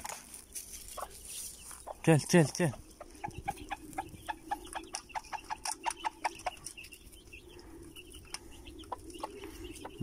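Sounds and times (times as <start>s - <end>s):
hen clucking: 0.7s - 10.0s.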